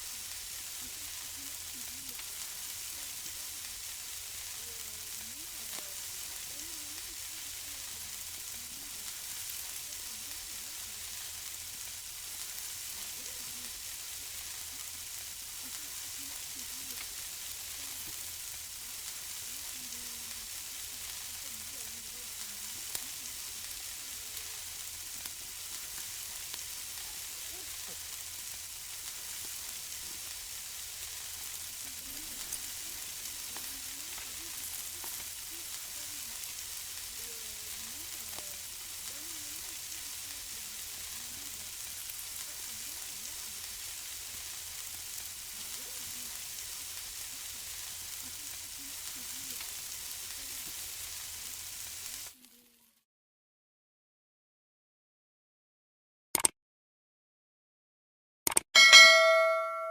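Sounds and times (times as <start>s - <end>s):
food sizzling on grill: 0.0s - 53.0s, 58.8s - 59.9s.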